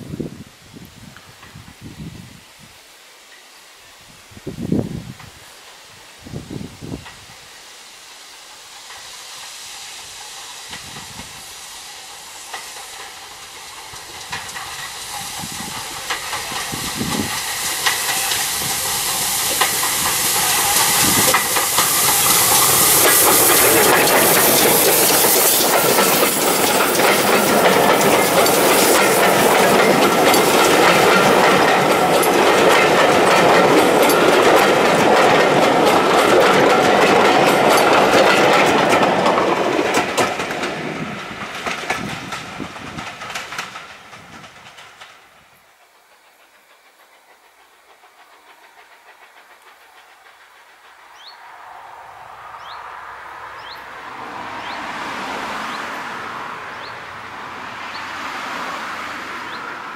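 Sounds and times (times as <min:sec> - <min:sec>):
steam train hissing: 0:00.0 - 0:59.9
train wheels clicking over rail joints: 0:04.5 - 0:59.9.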